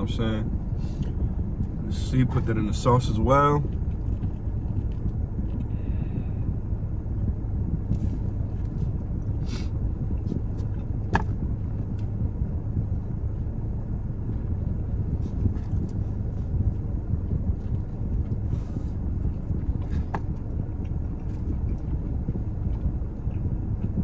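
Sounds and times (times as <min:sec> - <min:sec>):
car engine rumble inside cabin: 0:00.0 - 0:24.0.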